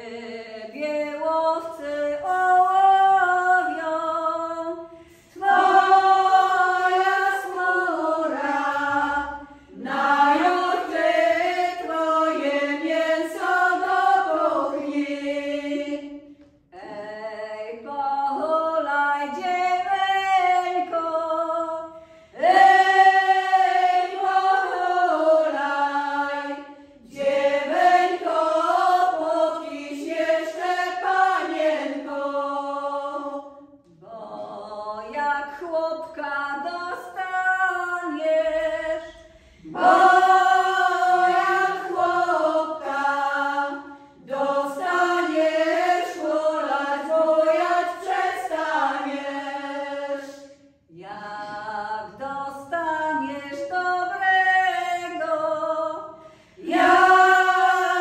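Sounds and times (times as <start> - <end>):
women singing a cappella: 0.0 - 58.0.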